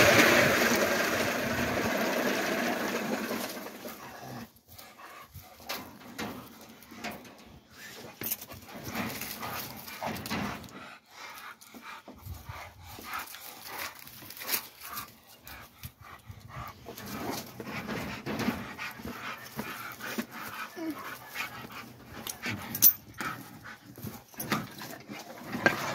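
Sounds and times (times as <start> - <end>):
dog breathing hard: 4.5 - 7.0, 7.6 - 25.9.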